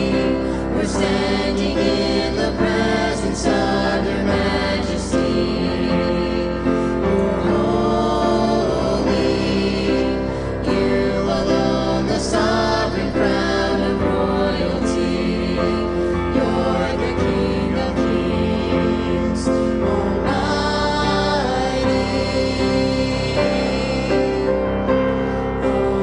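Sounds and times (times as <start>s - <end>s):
group singing gospel song: 0.0s - 26.0s.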